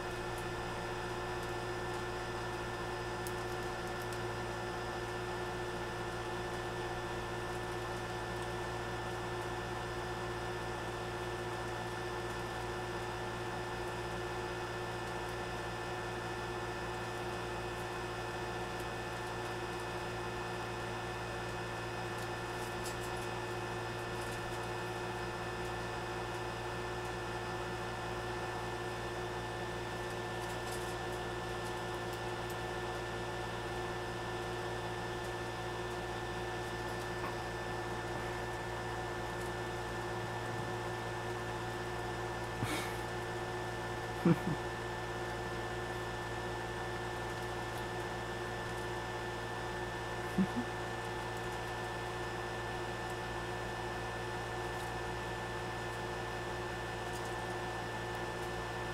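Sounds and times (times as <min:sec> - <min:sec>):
steady machine hum: 0:00.0 - 0:58.9.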